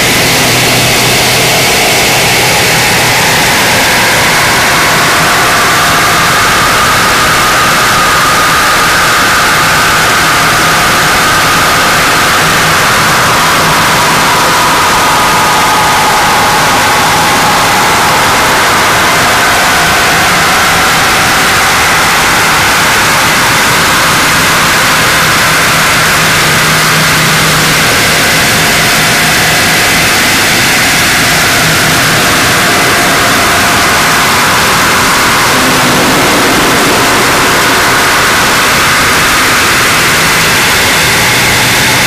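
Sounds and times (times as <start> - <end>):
distorted electronic noise: 0.0 - 42.0.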